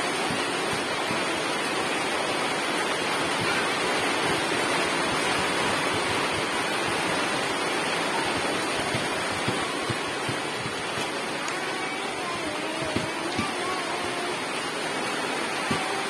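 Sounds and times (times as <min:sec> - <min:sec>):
heavy rain on puddles and grass: 0:00.0 - 0:16.0.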